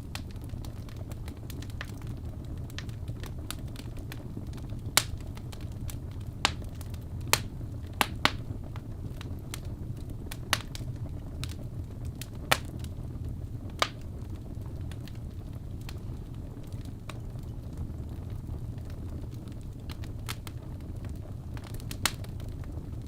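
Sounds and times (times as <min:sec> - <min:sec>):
logs crackling and popping: 0:00.0 - 0:23.0
low rumble of flame: 0:00.0 - 0:23.0.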